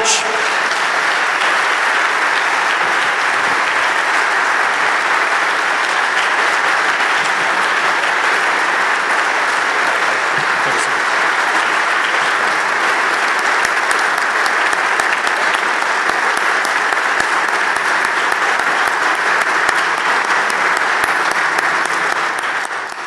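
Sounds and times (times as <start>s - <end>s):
crowd applauding: 0.0s - 23.0s.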